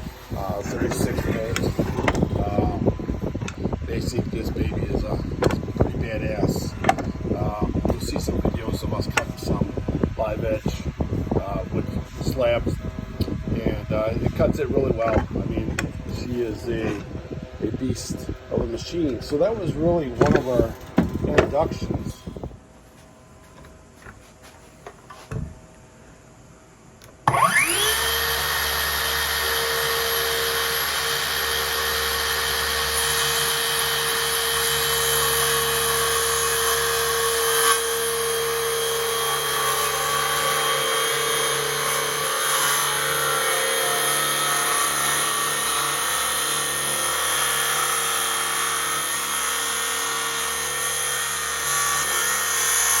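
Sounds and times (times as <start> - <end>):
power tool motor whining: 0.0 - 22.5, 27.1 - 53.0.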